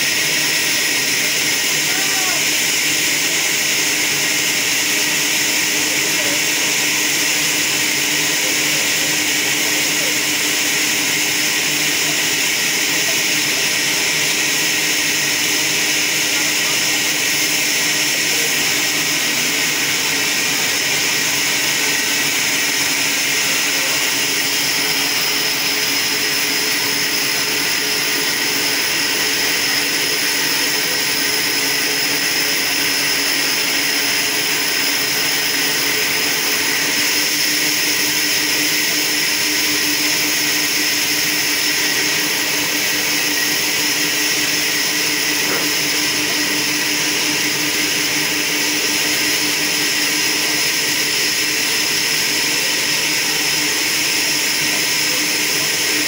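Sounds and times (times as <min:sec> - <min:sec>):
bandsaw blade cutting timber: 0:00.0 - 0:56.0.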